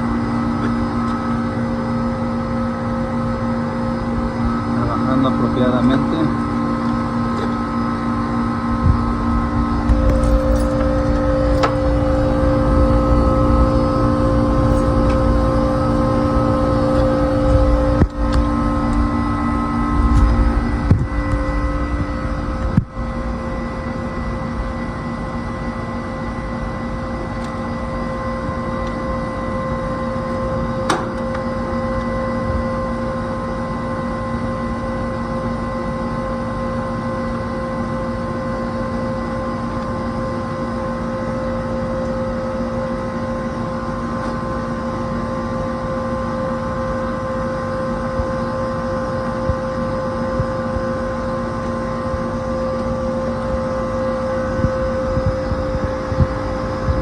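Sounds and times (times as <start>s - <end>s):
air conditioner unit humming: 0.0s - 57.0s.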